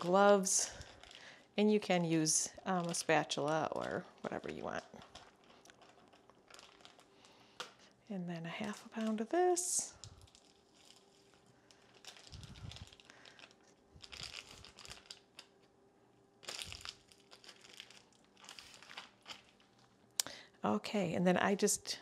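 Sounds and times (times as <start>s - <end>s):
packaging crinkling and rustling: 0.0s - 15.7s, 16.4s - 20.1s.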